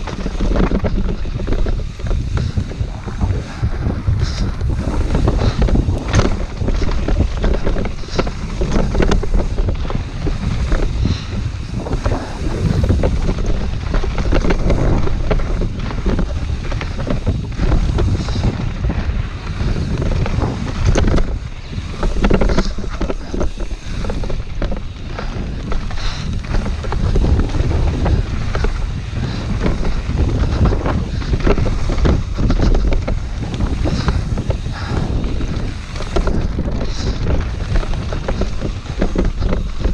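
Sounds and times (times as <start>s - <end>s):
bike tyres clicking over stones: 0.0s - 39.9s
wind buffeting microphone: 0.0s - 39.9s.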